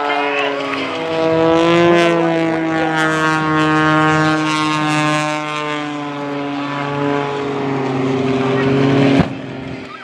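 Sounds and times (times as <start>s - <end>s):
propeller planes droning: 0.0s - 10.0s.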